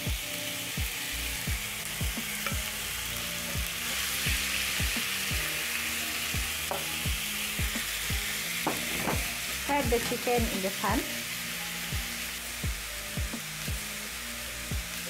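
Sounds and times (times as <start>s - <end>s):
background music with steady beat: 0.0s - 15.0s
chicken sizzling in hot oil: 0.0s - 15.0s.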